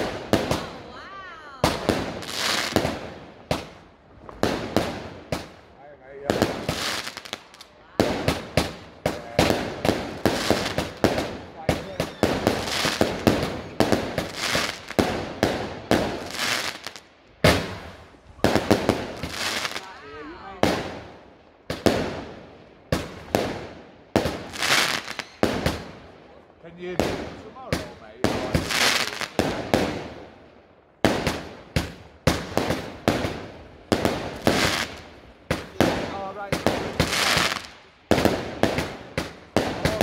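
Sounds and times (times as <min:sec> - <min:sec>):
crackling hiss: 0:00.0 - 0:40.0
firework bangs: 0:00.0 - 0:40.0.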